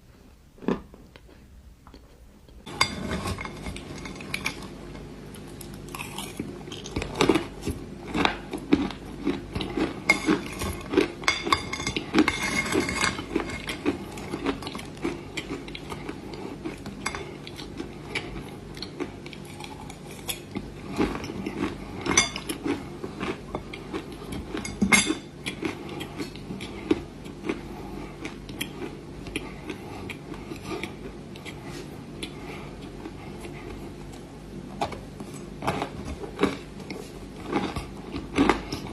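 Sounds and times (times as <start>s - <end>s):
clay being chewed: 1.9s - 38.9s.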